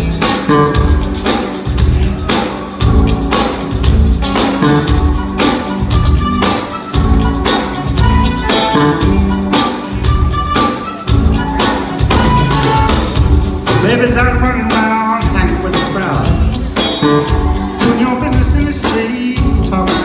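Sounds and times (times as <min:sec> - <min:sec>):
drum kit: 0:00.0 - 0:20.0
electric guitar: 0:00.0 - 0:20.0
keyboards: 0:00.0 - 0:20.0.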